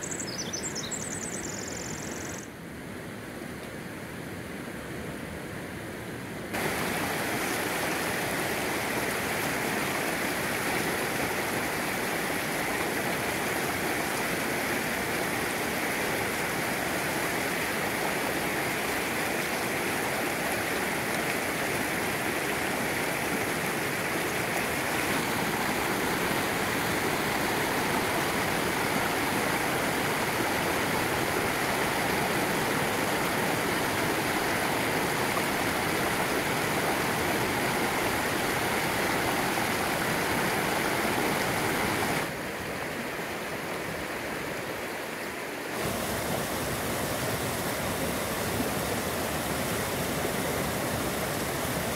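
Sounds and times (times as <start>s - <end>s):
creek water rushing over rocks: 6.5s - 51.9s.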